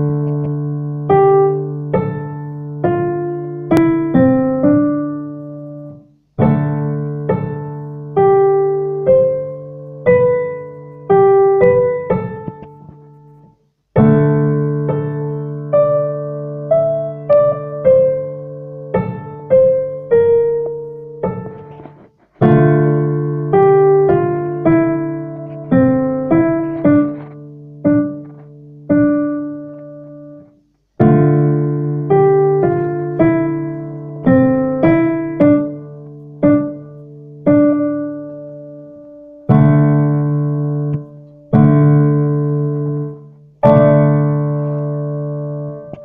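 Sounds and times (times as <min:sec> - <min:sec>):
piano melody: 0:00.0 - 0:46.0.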